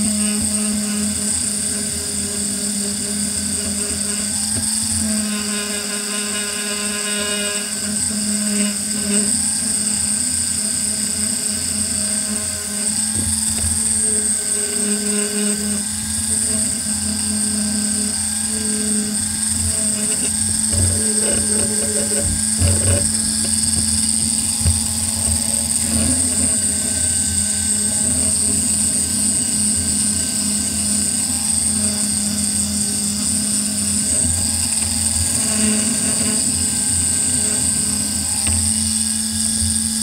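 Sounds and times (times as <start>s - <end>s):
polisher motor whine: 0.0s - 40.0s.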